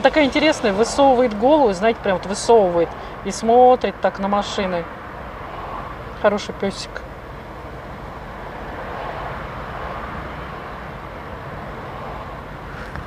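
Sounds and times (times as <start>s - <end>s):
traffic idling and creeping: 0.0s - 13.0s.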